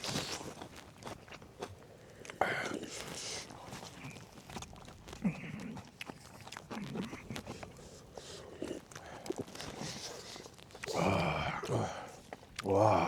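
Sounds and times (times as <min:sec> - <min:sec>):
chewing crunches: 0:00.0 - 0:13.0.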